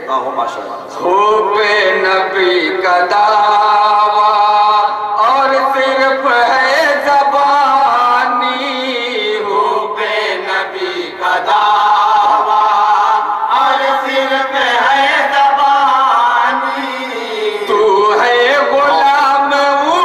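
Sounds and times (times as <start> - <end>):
men chanting together: 1.0 - 20.0.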